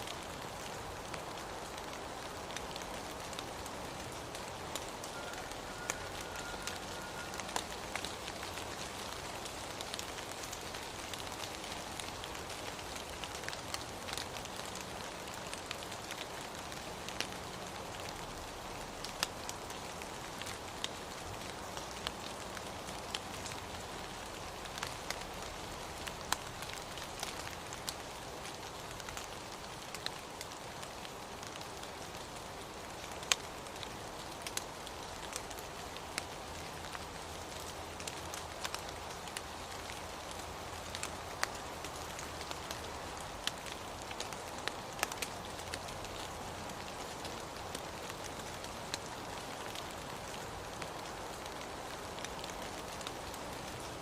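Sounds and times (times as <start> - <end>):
raindrops ticking: 0.0 - 54.0
steady rain: 0.0 - 54.0.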